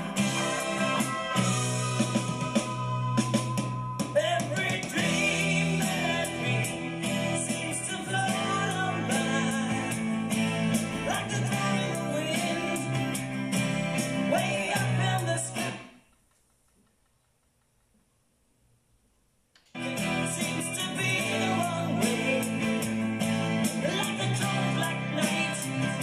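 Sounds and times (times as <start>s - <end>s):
rock song with singing and guitar: 0.0s - 16.0s, 19.8s - 26.0s.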